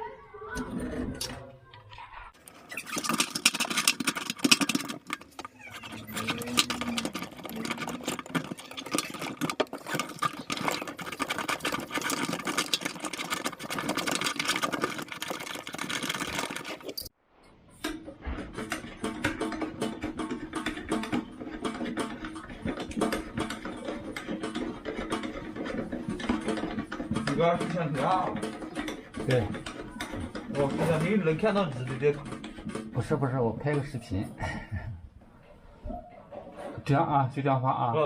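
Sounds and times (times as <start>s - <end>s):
metallic clicking and rattling of tools: 2.4s - 17.1s, 17.8s - 34.0s.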